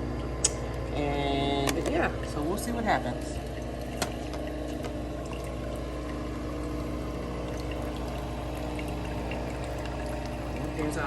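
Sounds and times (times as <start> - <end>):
coffee machine motor humming: 0.0 - 11.0
coffee pouring into cup: 0.0 - 11.0.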